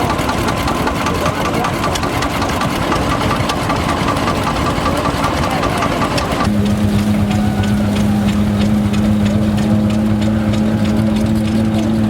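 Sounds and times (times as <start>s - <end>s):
engine idling with knocking beat: 0.0s - 12.0s
steady low drone: 2.2s - 12.0s.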